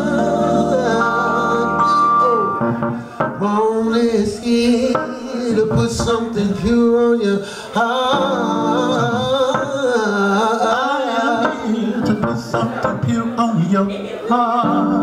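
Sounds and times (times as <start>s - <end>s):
men singing: 0.0s - 2.7s, 3.3s - 15.0s.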